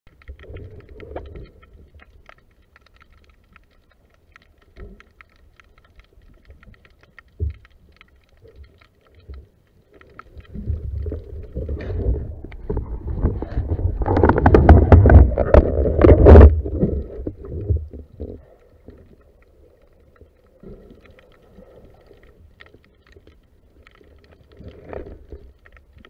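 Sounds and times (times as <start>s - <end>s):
faint crackling clicks underwater: 0.1s - 26.0s
low rumble of moving water: 0.1s - 26.0s.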